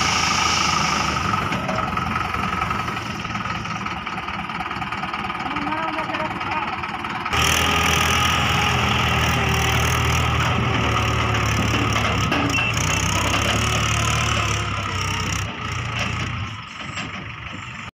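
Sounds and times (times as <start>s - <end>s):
tractor diesel engine: 0.0s - 17.9s.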